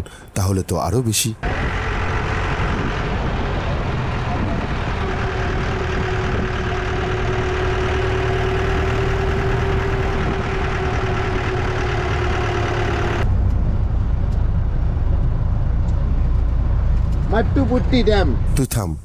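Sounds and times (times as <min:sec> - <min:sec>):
vehicle engine hum: 0:00.0 - 0:18.7
road noise: 0:00.0 - 0:19.0.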